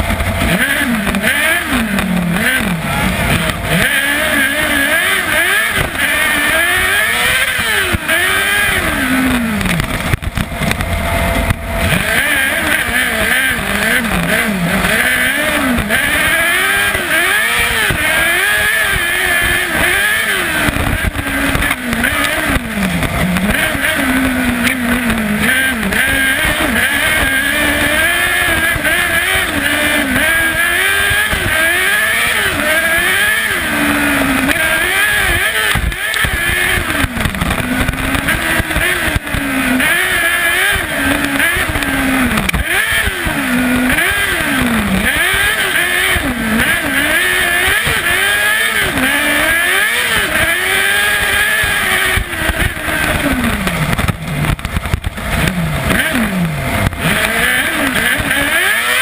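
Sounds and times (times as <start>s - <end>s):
constant low rumble: 0.0s - 58.6s
motorcycle engine revving: 0.0s - 59.0s.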